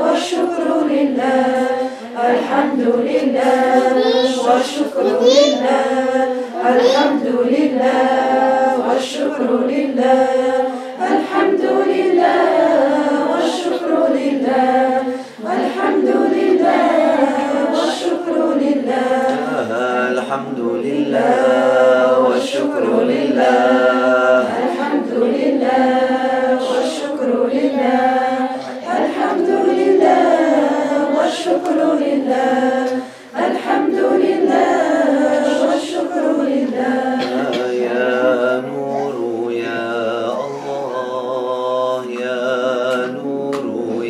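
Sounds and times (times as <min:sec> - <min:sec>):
group of voices chanting: 0:00.0 - 0:44.0.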